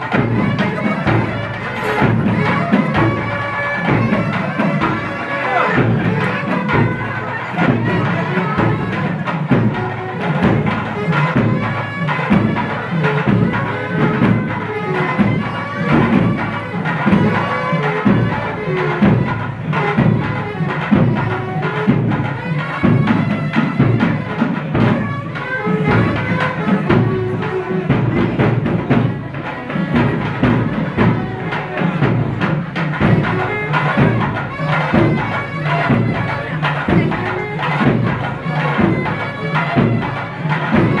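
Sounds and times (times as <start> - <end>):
percussion beat: 0.0 - 41.0
reedy wind instrument melody: 0.0 - 41.0.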